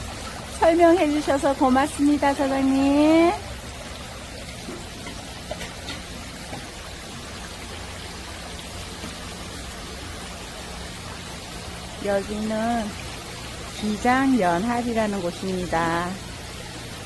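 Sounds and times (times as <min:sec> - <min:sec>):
water jets splashing into basins: 0:00.0 - 0:17.0.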